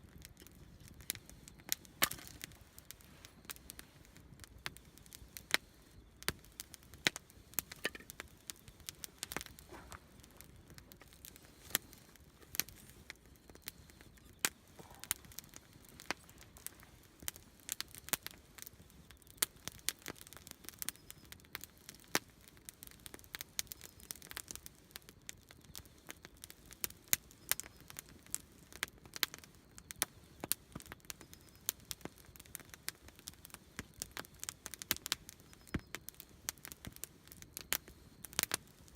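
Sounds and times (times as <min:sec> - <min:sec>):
campfire crackling and popping: 0:00.0 - 0:38.9
faint fire hiss: 0:00.0 - 0:38.9.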